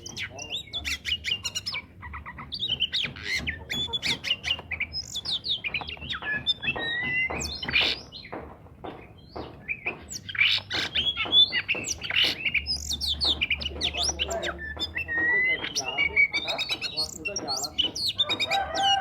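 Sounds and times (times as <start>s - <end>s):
bird singing: 0.0s - 19.0s.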